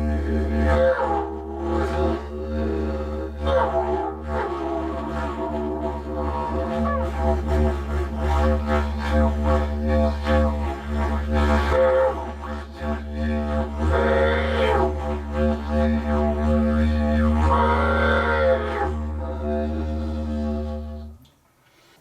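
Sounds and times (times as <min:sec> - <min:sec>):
didgeridoo drone: 0:00.0 - 0:21.2.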